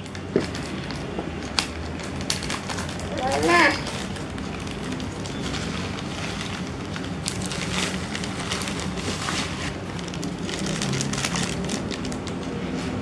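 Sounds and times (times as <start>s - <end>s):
plastic bag crinkling: 1.8s - 13.0s.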